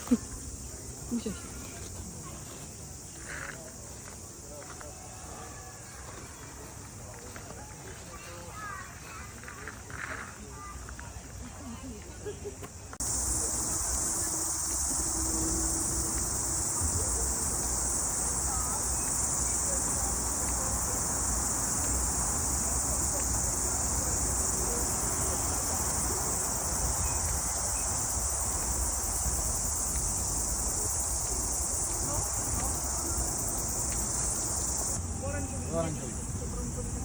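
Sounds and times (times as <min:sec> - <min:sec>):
cicadas shrilling: 0:00.0 - 0:11.7, 0:12.3 - 0:37.0.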